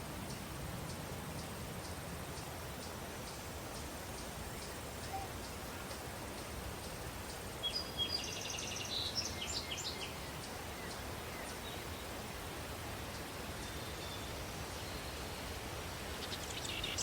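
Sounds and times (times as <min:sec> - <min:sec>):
steady breeze: 0:00.0 - 0:17.0.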